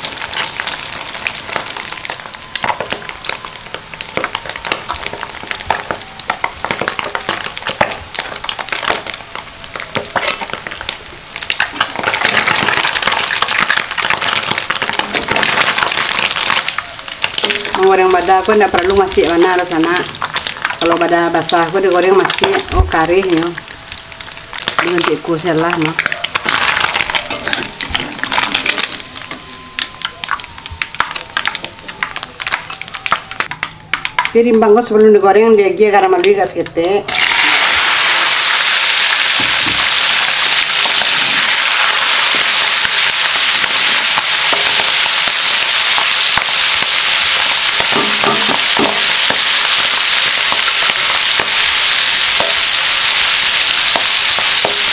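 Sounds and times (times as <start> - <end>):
fish frying in hot oil: 0.0 - 34.2, 37.1 - 54.9.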